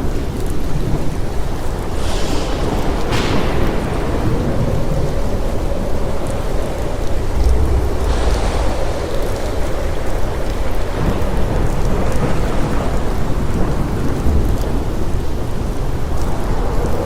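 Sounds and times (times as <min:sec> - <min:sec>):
low surf rumble: 0:00.0 - 0:17.0.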